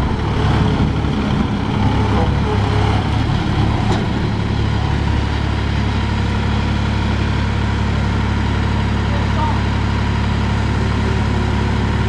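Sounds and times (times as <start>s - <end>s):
road roller engine humming: 0.0s - 12.0s.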